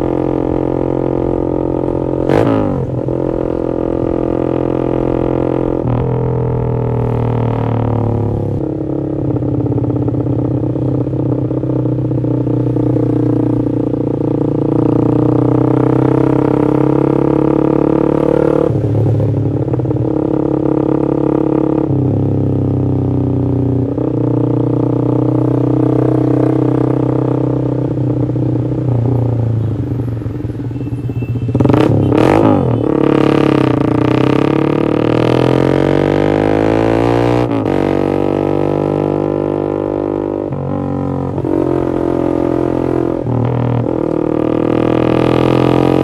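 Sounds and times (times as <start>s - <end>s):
motorcycle engine droning: 0.0s - 46.0s.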